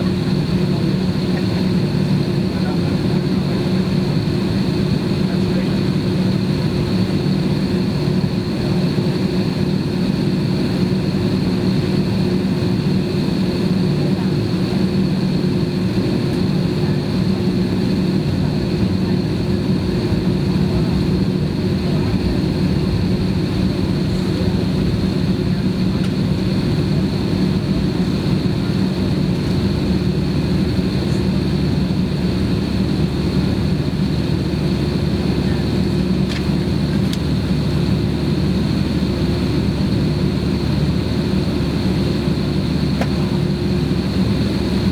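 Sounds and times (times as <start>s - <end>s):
jet engine drone in cabin: 0.0s - 44.9s.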